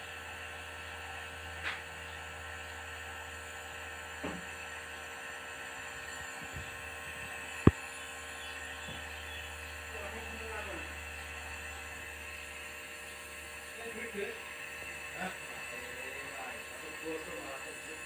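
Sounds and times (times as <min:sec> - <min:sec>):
nebulizer motor hum: 0:00.0 - 0:18.0.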